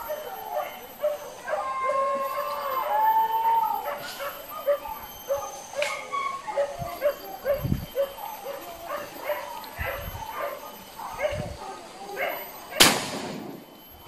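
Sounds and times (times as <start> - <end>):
dog howling: 0.0 - 12.8
dogs yelping: 0.0 - 13.8.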